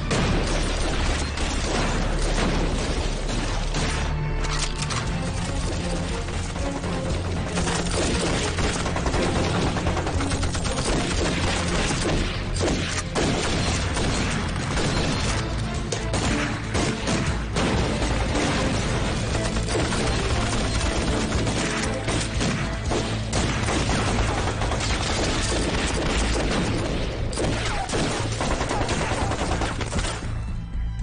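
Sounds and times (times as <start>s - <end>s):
gunfire: 0.0s - 30.3s
dramatic music score: 0.0s - 31.0s.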